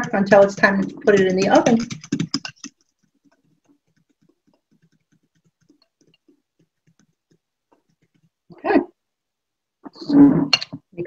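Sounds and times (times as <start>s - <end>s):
soft mixing taps: 0.0s - 9.5s.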